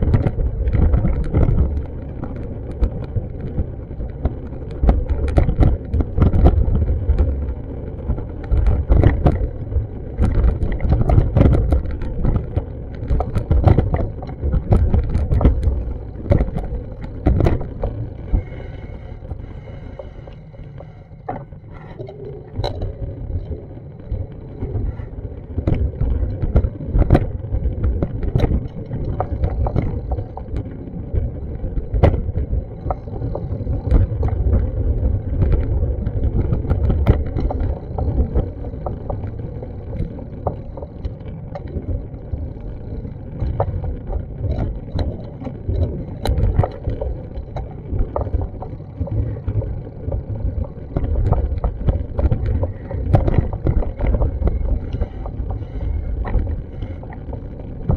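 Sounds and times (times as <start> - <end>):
wind rumble on microphone: 0.0 - 57.9.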